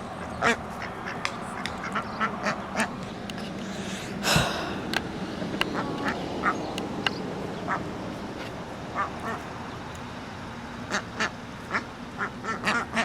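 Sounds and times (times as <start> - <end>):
ducks quacking: 0.0 - 9.9, 10.6 - 13.0.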